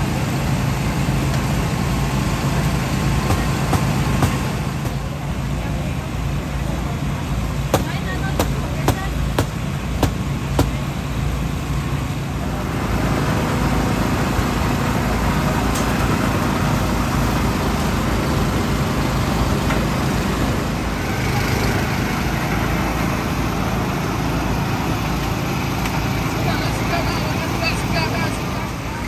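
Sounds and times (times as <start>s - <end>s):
low engine rumble: 0.0s - 29.0s
crowd chatter: 1.9s - 29.0s.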